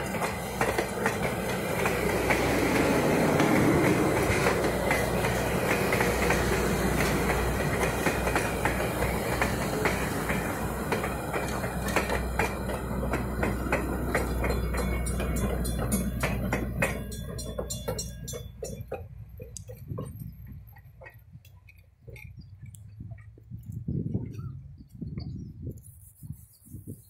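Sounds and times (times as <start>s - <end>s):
train wheels clattering over joints: 0.0s - 22.4s.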